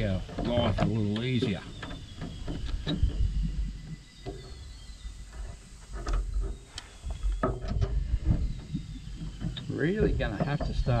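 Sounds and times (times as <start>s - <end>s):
faint insects or birds calling: 0.0s - 11.0s.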